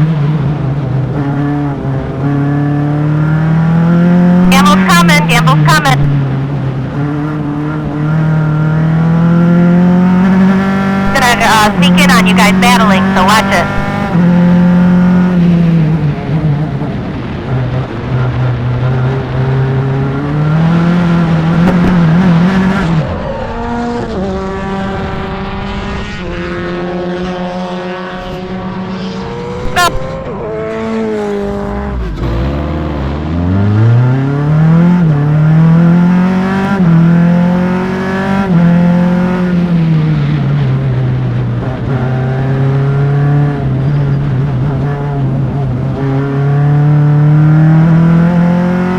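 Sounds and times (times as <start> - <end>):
racing car engine: 0.0 - 48.9.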